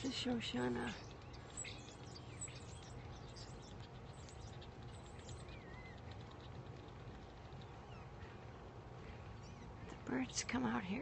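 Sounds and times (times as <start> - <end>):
birds chirping: 0.0 - 11.0
faint low background rumble: 0.0 - 11.0.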